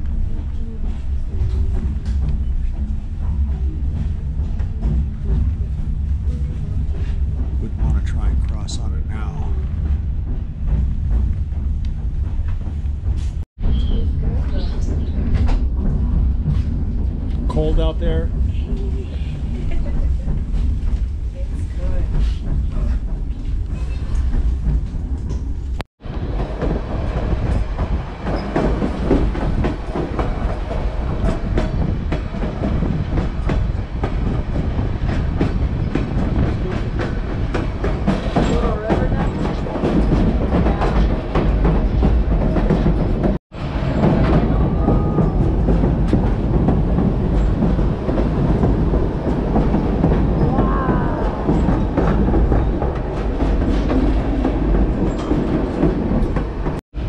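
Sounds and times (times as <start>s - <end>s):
train rumbling along track: 0.0s - 57.0s
wheels clacking over rail joints: 7.6s - 56.8s.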